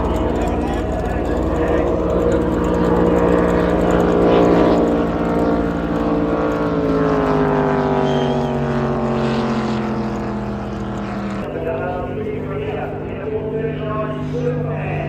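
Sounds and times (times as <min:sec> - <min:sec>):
boat engine passing at speed: 0:00.0 - 0:15.0.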